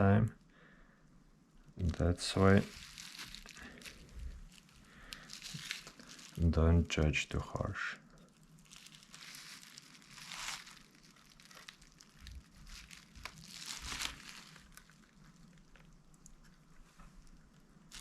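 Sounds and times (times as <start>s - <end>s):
packaging crinkling and rustling: 1.8s - 7.1s, 8.1s - 18.0s.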